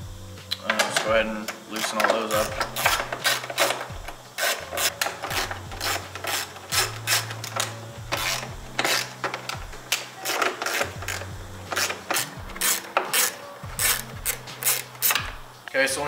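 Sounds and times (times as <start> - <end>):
socket ratchet clicking: 0.5 - 15.4.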